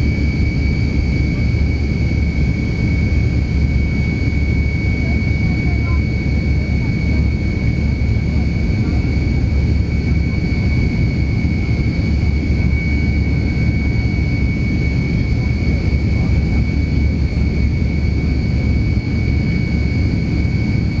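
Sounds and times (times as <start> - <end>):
jet engines deep rumble and whine: 0.0 - 21.0.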